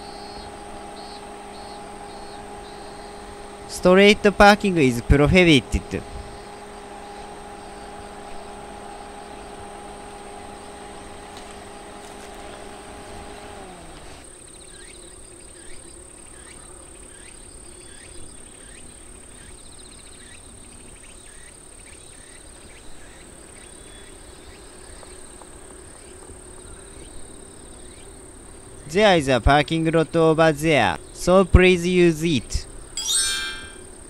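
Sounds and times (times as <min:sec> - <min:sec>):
insects whining and chirping: 0:00.0 - 0:29.2.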